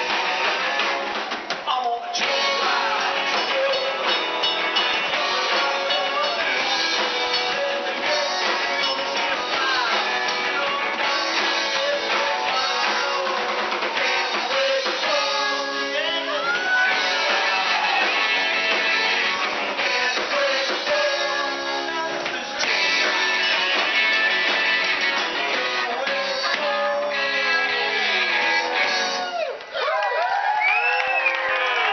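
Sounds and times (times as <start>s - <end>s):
upright bass: 0.0s - 29.3s
drum kit: 0.0s - 29.6s
electric guitars: 0.0s - 30.2s
person singing: 1.7s - 29.4s.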